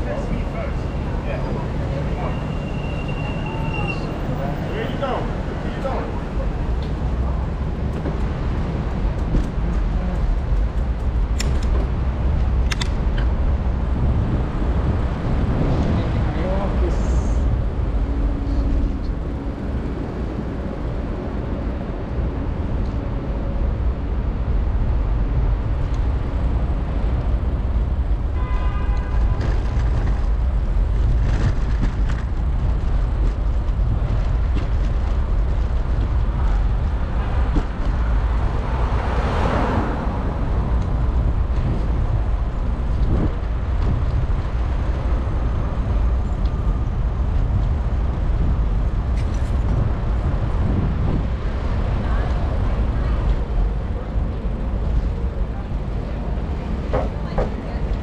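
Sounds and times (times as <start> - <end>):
road and traffic rumble: 0.0 - 58.0
wind buffeting microphone: 5.3 - 28.3, 29.1 - 58.0.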